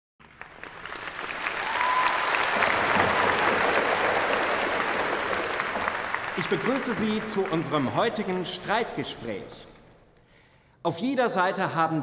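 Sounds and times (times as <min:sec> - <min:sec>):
audience applause: 0:00.2 - 0:10.0.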